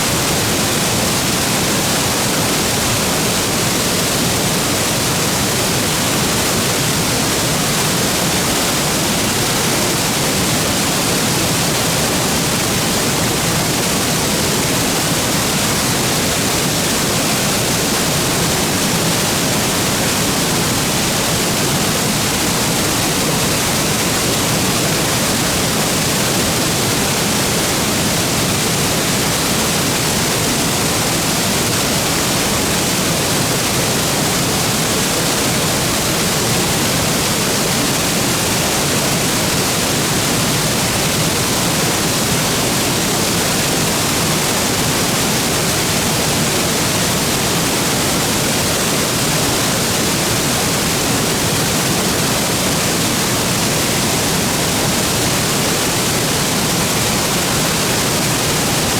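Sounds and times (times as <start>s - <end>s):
waterfall roar: 0.0s - 58.9s.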